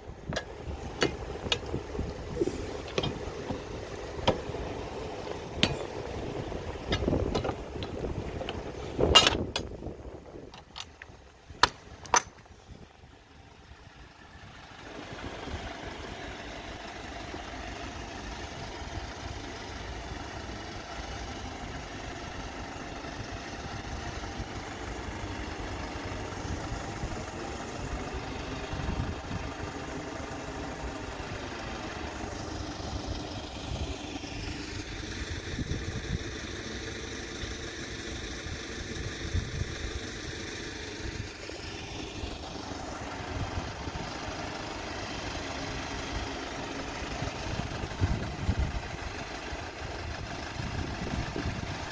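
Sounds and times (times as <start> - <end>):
truck diesel engine idling: 0.0 - 51.9.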